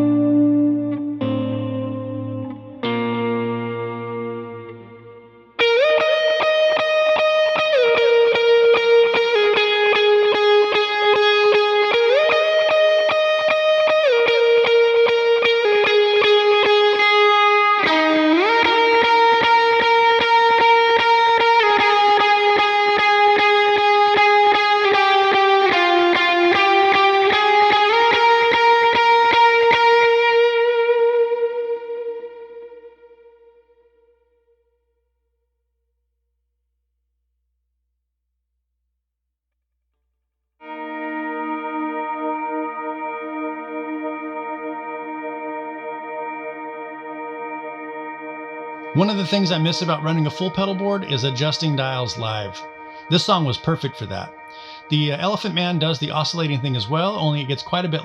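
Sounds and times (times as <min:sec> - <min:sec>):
electric guitar sustained lead notes: 0:00.0 - 0:34.2, 0:40.6 - 0:58.0.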